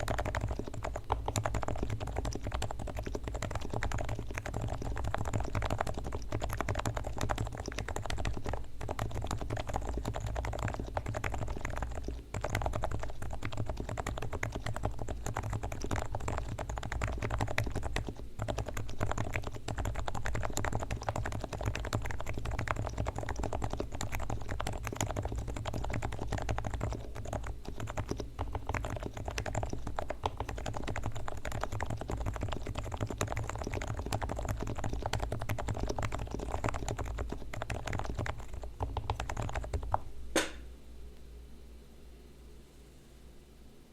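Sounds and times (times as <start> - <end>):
fast typing on keyboard: 0.0 - 40.1.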